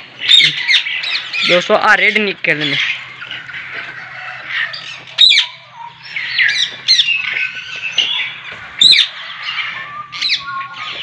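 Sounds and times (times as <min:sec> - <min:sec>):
faint low hum: 0:00.0 - 0:11.0
parrots squawking and screeching: 0:00.0 - 0:11.0.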